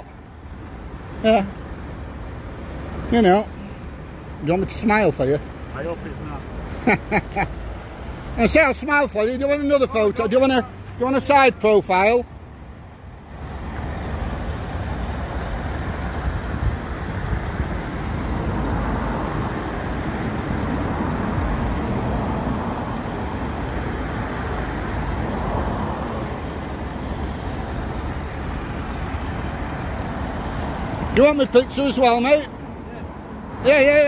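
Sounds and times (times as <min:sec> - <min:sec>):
diesel vehicles rumbling: 0:00.0 - 0:34.0.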